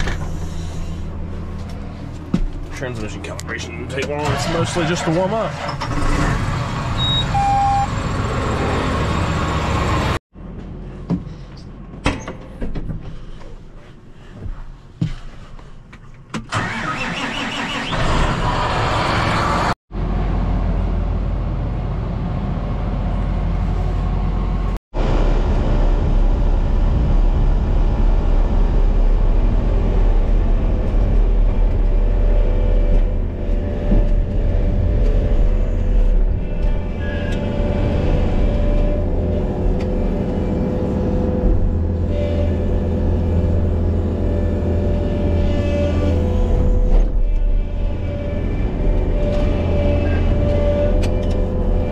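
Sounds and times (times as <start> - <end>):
tractor diesel engine running: 0.0 - 12.0, 16.5 - 51.9.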